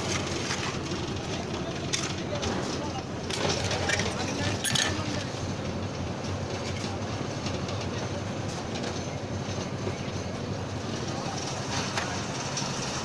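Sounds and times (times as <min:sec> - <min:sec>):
machinery rumbling and clattering: 0:00.0 - 0:13.0.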